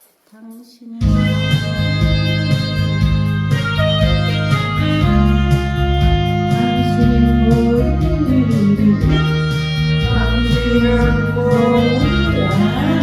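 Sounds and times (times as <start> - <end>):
bass: 1.0 - 13.0
guitar melody: 1.0 - 13.0
steady beat: 1.0 - 13.0.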